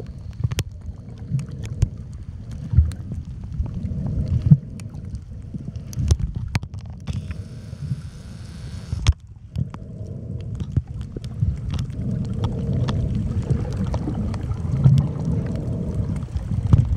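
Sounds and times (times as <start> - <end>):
muffled underwater sloshing: 0.0 - 16.9
sharp clicks and crackles: 0.0 - 16.9.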